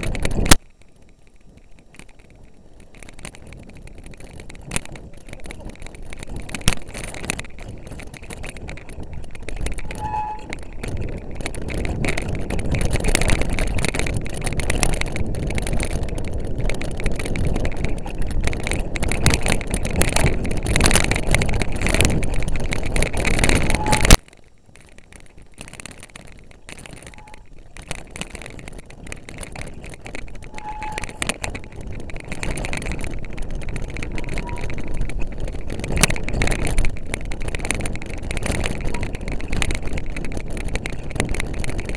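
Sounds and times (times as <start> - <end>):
bike rattling and knocking: 0.0 - 41.9
wind buffeting microphone: 0.0 - 41.9.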